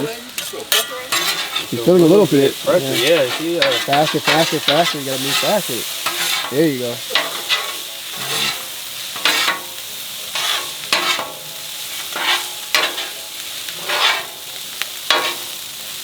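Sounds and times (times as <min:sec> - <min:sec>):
food sizzling on griddle: 0:00.0 - 0:16.0
metal spatulas scraping: 0:00.3 - 0:09.7, 0:10.3 - 0:14.4, 0:15.1 - 0:15.6.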